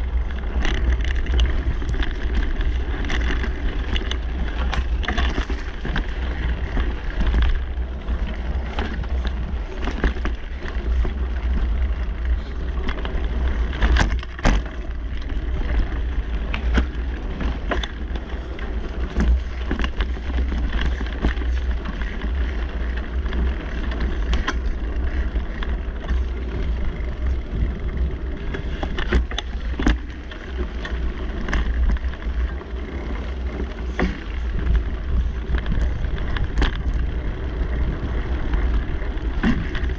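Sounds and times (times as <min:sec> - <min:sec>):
bike clicking and rattling: 0:00.0 - 0:39.9
bike tyres rumbling on dirt: 0:00.0 - 0:39.9.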